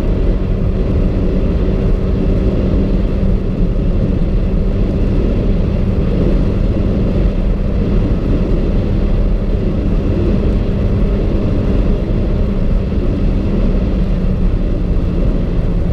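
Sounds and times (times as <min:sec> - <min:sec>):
car driving at high speed: 0:00.0 - 0:15.9.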